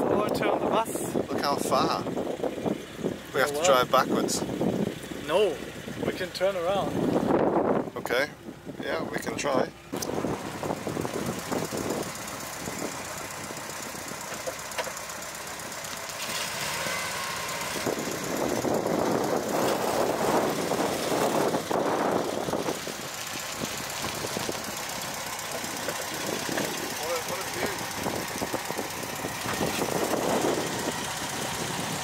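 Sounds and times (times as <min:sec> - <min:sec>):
van engine running: 0:00.0 - 0:32.0.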